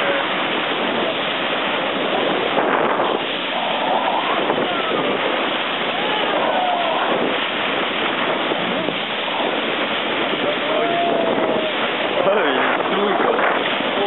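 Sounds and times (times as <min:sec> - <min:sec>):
water rushing along boat hull: 0:00.0 - 0:14.0
wind noise on microphone: 0:00.0 - 0:14.0.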